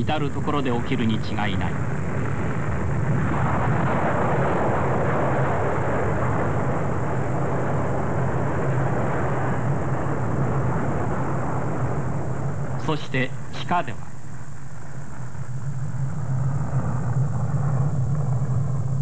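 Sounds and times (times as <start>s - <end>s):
constant low drone: 0.0s - 19.0s
fire roaring: 0.0s - 19.0s.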